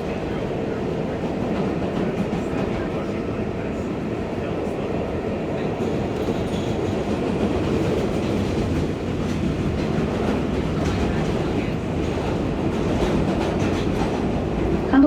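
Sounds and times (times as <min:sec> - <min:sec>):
subway wheels rumbling on rail: 0:00.0 - 0:15.0.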